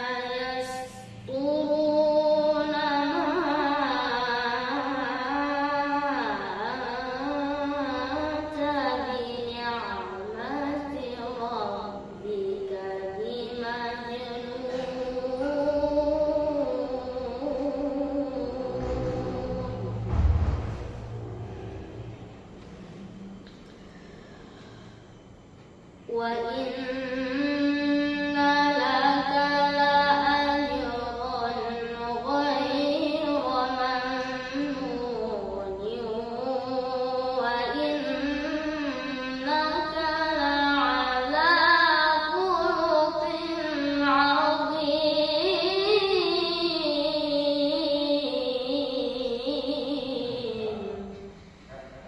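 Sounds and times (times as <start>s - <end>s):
boy reciting melodically: 0.0s - 20.1s, 25.9s - 52.0s.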